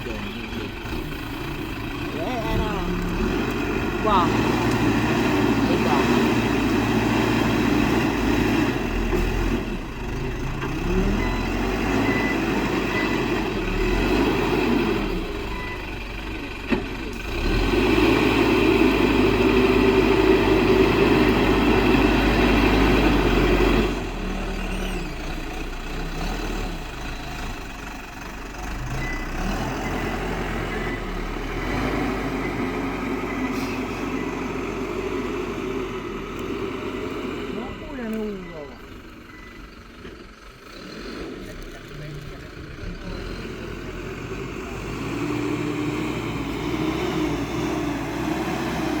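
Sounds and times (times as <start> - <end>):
diesel machinery engine running: 0.0 - 49.0.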